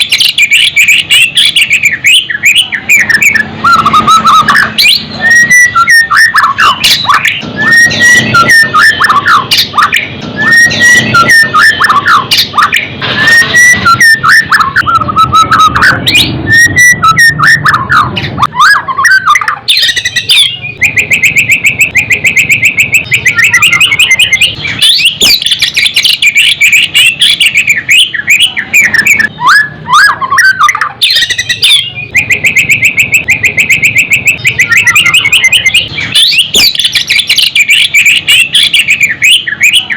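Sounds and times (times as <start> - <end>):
bird singing whistled phrases: 0.0 - 39.9
fast bird trill: 0.0 - 39.9.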